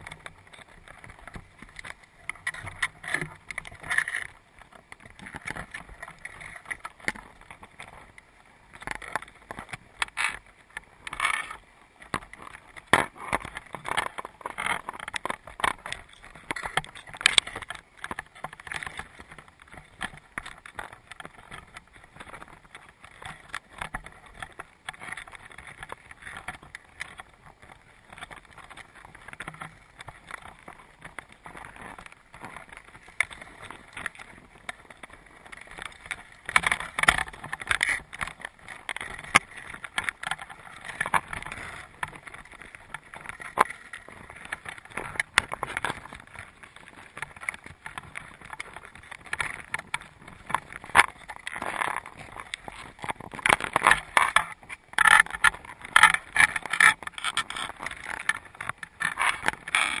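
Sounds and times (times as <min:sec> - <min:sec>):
crabs clicking and scraping on mesh: 0:00.0 - 1:00.0.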